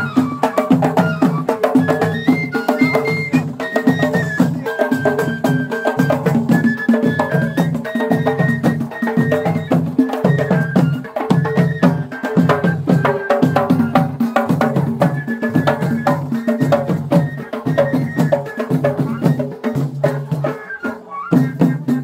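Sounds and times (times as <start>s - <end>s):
hand drums fast rhythm: 0.0s - 22.0s.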